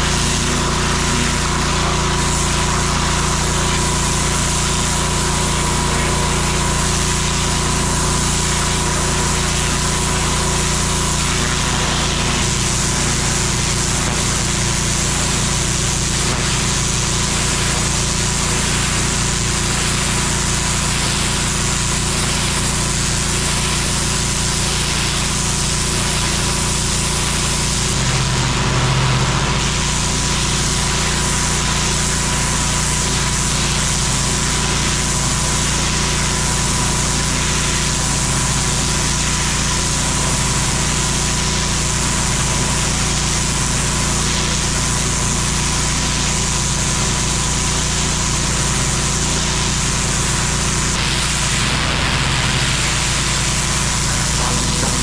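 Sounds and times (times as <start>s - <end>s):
pressure washer engine drone: 0.0s - 55.0s
water jet hissing on paving: 0.0s - 55.0s.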